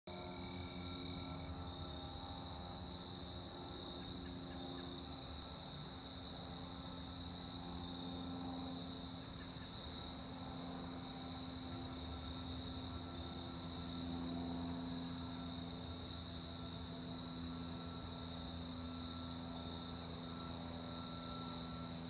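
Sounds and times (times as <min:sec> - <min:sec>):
distant light plane drone: 0:00.1 - 0:22.0
evening insect chorus: 0:00.1 - 0:22.0
high pulsing insect call: 0:00.1 - 0:22.0.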